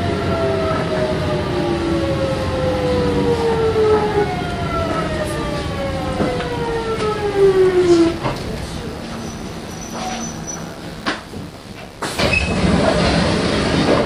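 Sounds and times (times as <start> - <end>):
train motors whining: 0.0 - 14.0
wheels rumbling on rail: 0.0 - 14.0.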